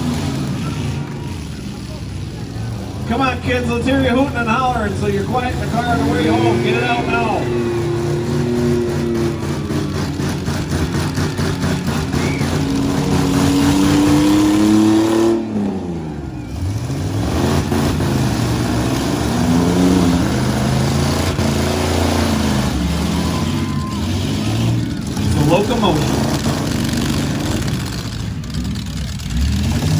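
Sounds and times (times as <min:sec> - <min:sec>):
truck engines revving hard: 0:00.0 - 0:29.9.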